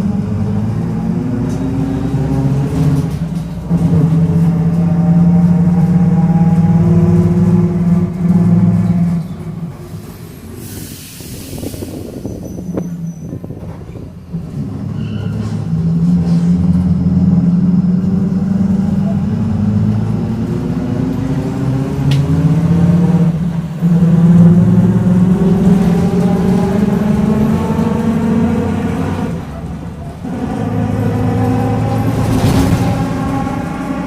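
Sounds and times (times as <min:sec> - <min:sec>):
bus diesel engine accelerating: 0:00.0 - 0:34.0.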